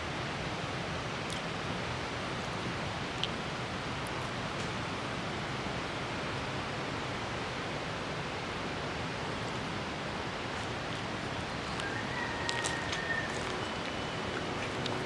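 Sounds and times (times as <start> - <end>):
waterfall rushing: 0.5 - 15.0.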